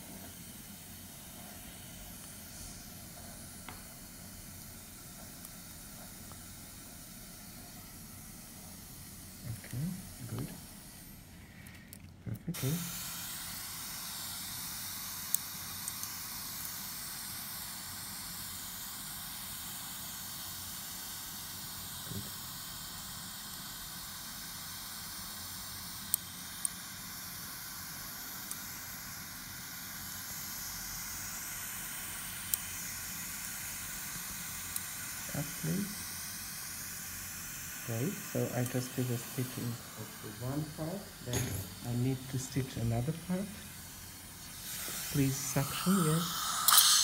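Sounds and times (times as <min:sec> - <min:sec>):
dental suction hissing: 0:00.0 - 0:47.0.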